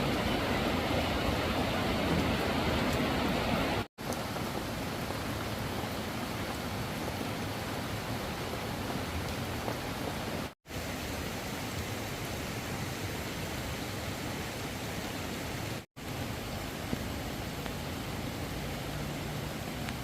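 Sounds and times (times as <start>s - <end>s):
steady hiss of water: 0.0s - 20.0s.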